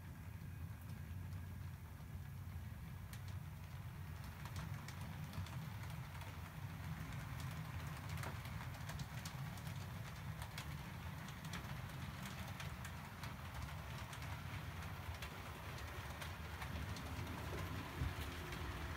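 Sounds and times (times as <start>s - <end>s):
wheels clicking over rail joints: 0.4s - 18.9s.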